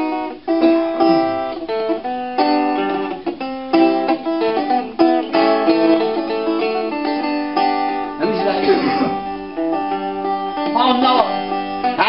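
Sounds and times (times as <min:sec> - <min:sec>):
solo acoustic guitar: 0:00.0 - 0:12.0.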